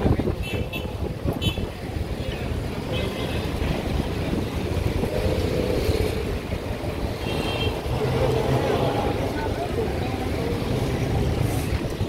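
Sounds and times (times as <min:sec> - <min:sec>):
cars passing: 0:00.0 - 0:12.0
low traffic rumble: 0:00.0 - 0:12.0
motorcycles passing: 0:00.0 - 0:12.0.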